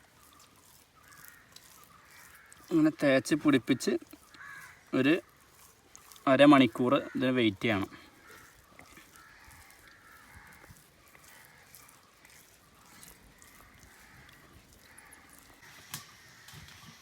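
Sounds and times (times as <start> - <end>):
faint crows cawing: 0.0 - 17.0.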